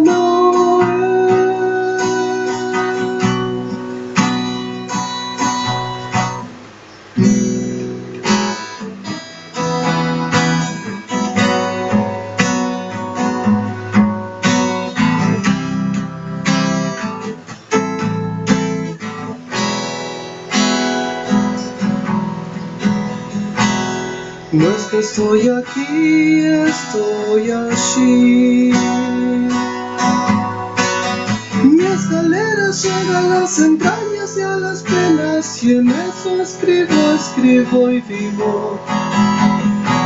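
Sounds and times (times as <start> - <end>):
acoustic guitar chords: 0.0 - 40.0.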